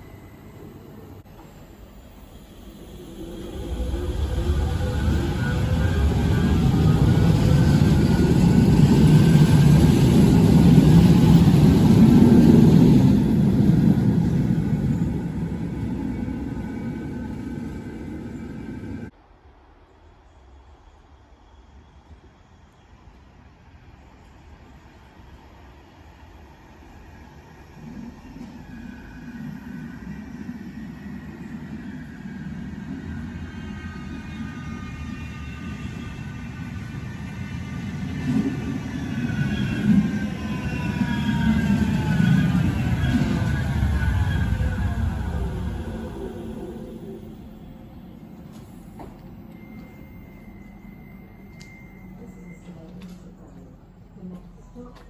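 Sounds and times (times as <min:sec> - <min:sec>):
tram passing: 0:00.0 - 0:55.0.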